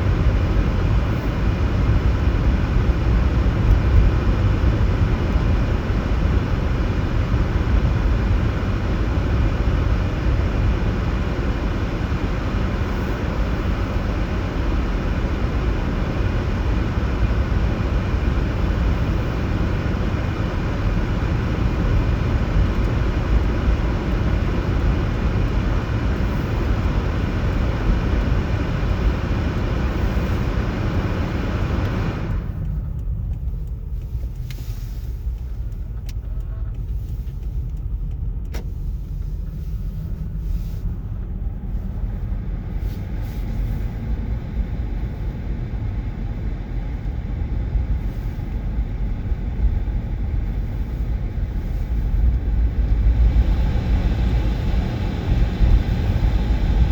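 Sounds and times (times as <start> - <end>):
road and tyre hiss: 0.0 - 56.9
vehicle engine low rumble: 0.0 - 56.9.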